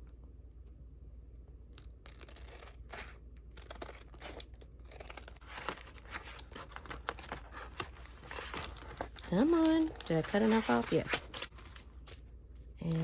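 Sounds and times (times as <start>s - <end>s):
paper crinkling and rustling: 2.1s - 13.0s.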